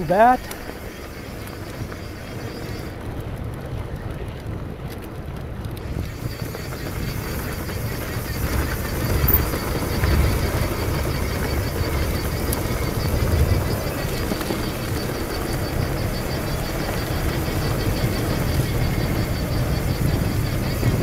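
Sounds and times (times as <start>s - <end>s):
bike tyres rumbling on dirt: 0.0s - 21.0s
wind buffeting microphone: 0.0s - 21.0s.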